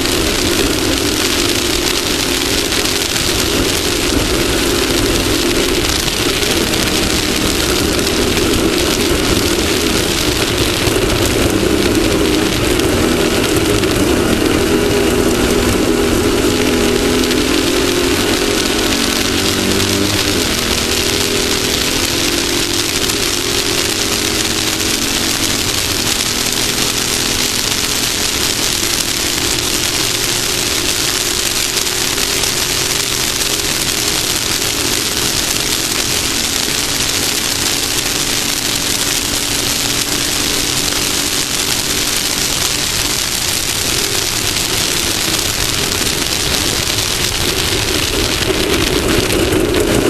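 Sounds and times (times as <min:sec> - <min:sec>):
buggy engine running: 0:00.0 - 0:50.0
rush of wind and dirt: 0:00.0 - 0:50.0.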